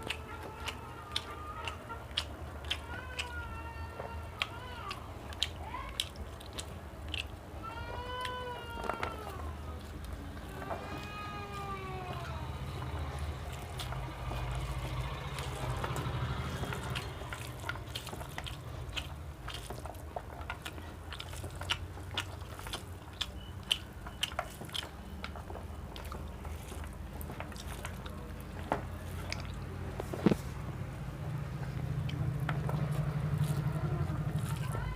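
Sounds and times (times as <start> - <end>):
mouth clicks and smacks: 0.0 - 8.4, 12.6 - 34.8
chewing: 0.0 - 34.9.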